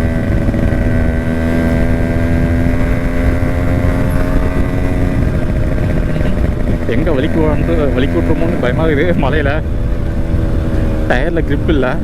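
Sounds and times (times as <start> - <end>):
two-stroke motorcycle engine running: 0.0 - 12.0
wind rumble on microphone: 0.0 - 12.0.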